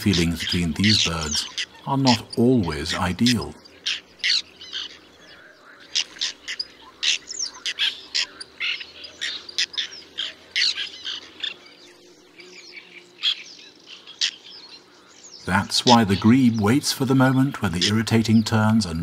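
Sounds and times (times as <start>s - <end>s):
terns giving harsh calls: 0.0s - 19.0s.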